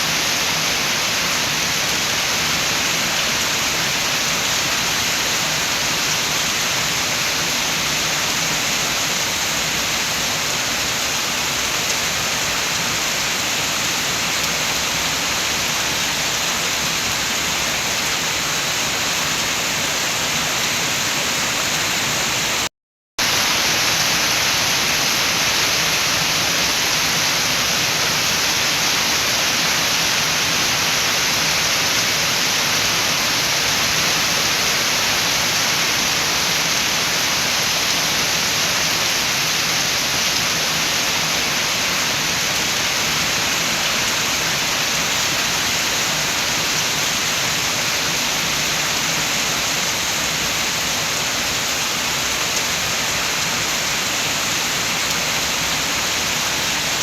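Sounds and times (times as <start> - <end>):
rain with wind: 0.0 - 57.0.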